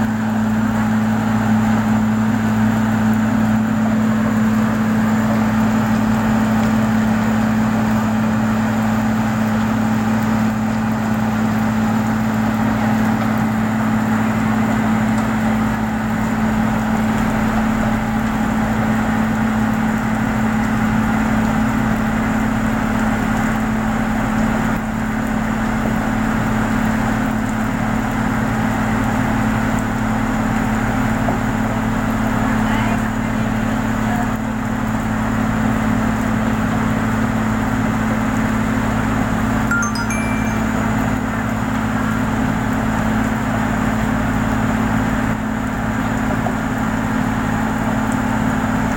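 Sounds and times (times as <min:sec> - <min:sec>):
engine droning steadily: 0:00.0 - 0:39.7.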